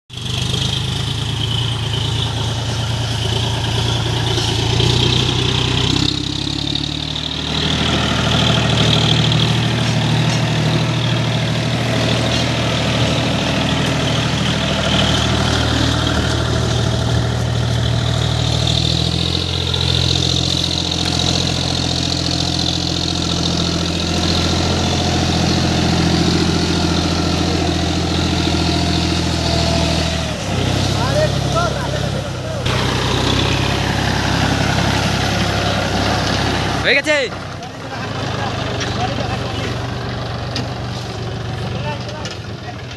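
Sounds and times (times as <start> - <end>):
tractor diesel engine idling: 0.1 - 42.9.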